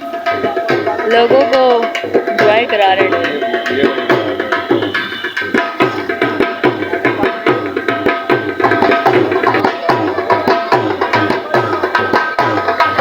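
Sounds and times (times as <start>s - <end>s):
drums played in quick beat: 0.0s - 13.0s.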